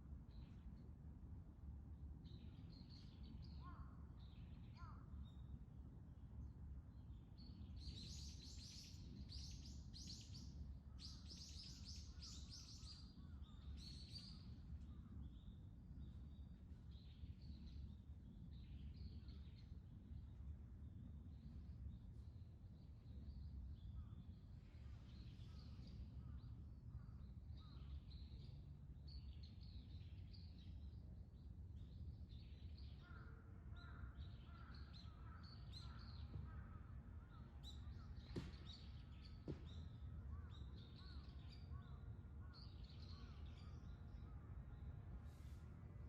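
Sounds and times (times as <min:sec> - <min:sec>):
songbirds chirping: 0:06.5 - 0:46.0.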